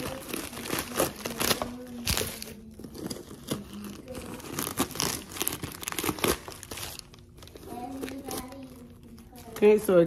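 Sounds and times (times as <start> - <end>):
paper crinkling and rustling: 0.0 - 9.8.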